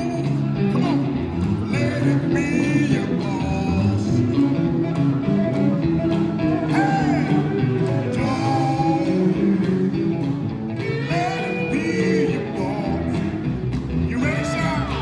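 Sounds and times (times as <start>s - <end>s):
electric steel guitar sliding: 0.0s - 15.0s
gospel band playing live: 0.0s - 15.0s.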